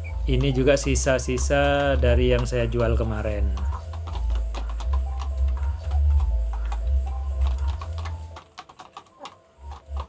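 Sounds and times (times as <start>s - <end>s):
chicken pecking plastic cup: 0.1s - 10.0s.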